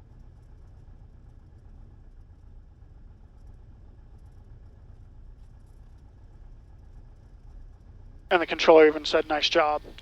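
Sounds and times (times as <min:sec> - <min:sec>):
faint low engine drone: 0:00.0 - 0:10.0.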